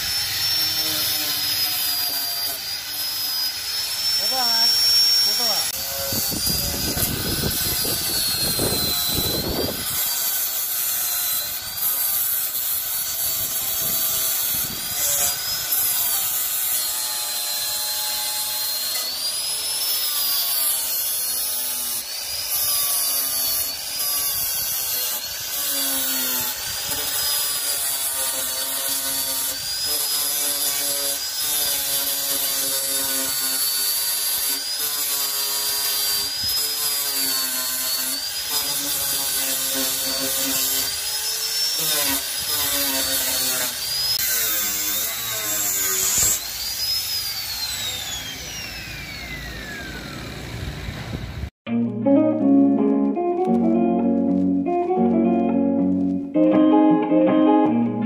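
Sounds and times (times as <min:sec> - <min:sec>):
power tool whining: 0:00.0 - 0:51.6.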